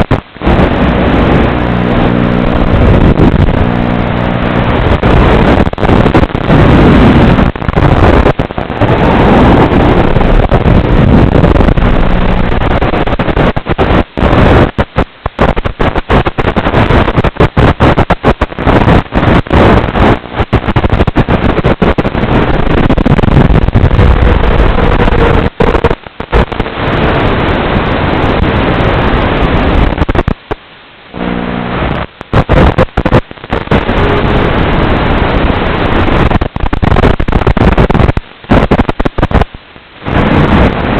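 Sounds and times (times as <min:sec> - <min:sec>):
distorted wind noise: 0:00.0 - 0:40.9.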